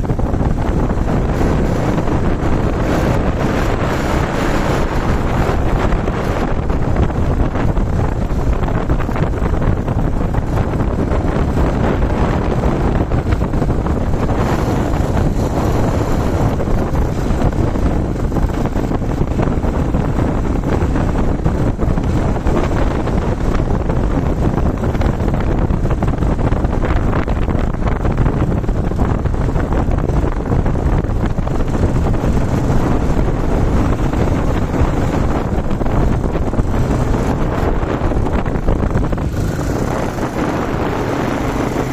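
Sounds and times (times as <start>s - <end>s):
motorcycle engine running: 0.0s - 41.9s
wind on microphone: 0.0s - 41.9s.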